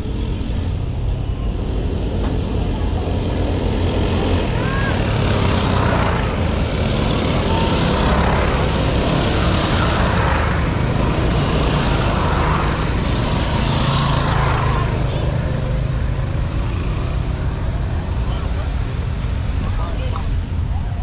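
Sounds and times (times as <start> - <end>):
mini bike engines passing: 1.5 - 20.6.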